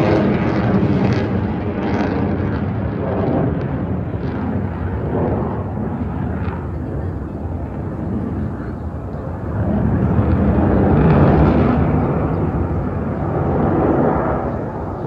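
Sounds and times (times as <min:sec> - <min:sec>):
jet fighters flying past: 0:00.0 - 0:15.0.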